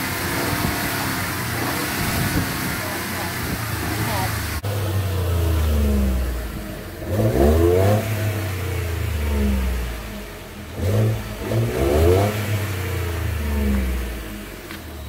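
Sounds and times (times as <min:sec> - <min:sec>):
truck engine idling and revving: 0:00.0 - 0:15.0.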